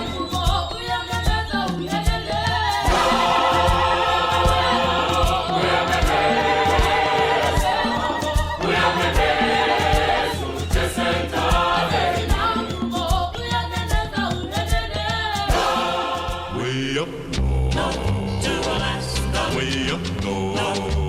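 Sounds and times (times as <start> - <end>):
song with harmonised vocals: 0.0 - 21.0.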